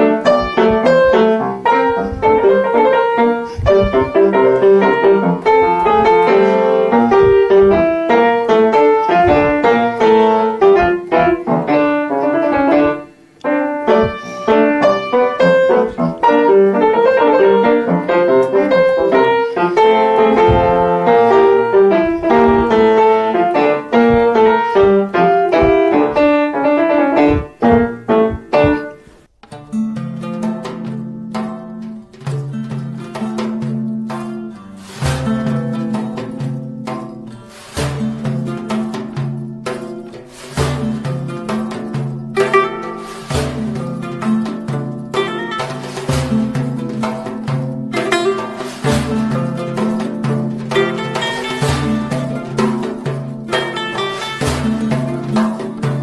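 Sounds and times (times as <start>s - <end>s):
upright piano playing: 0.0s - 29.1s, 30.0s - 56.0s.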